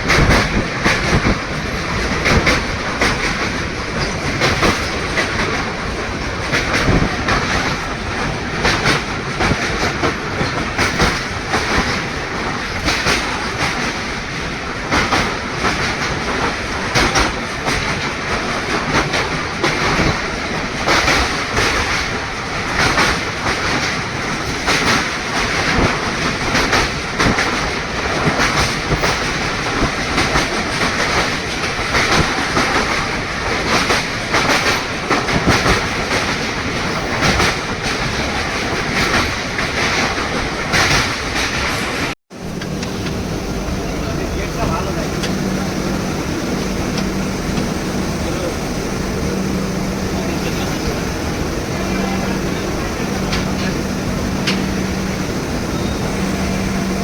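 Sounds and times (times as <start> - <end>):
train rumble: 0.0 - 57.0
train wheels clattering over rail joints: 0.0 - 57.0.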